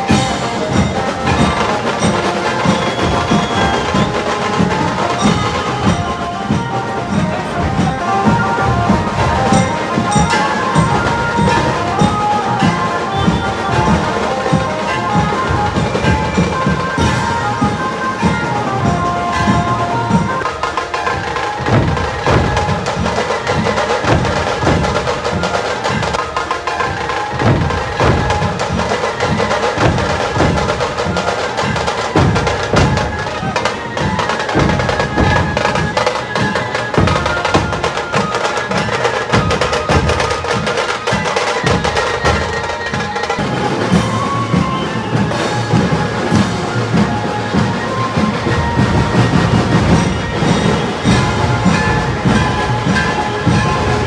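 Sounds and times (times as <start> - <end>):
dhol drums playing fast rhythm: 0.0 - 54.0.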